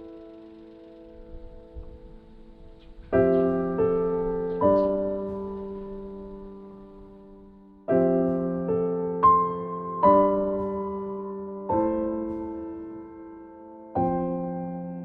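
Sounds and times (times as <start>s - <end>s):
piano notes ringing: 0.0s - 15.0s.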